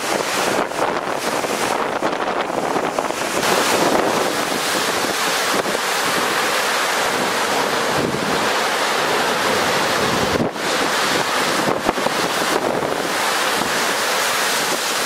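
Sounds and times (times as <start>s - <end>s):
surf breaking over rocks: 0.0s - 15.0s
wind buffeting microphone: 0.0s - 15.0s.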